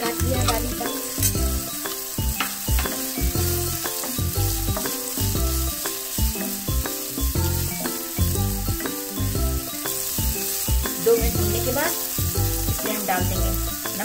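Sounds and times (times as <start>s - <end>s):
background music with low beat: 0.0s - 14.0s
vegetables sizzling in oil: 0.0s - 14.0s
wooden spatula stirring in pan: 0.0s - 14.0s.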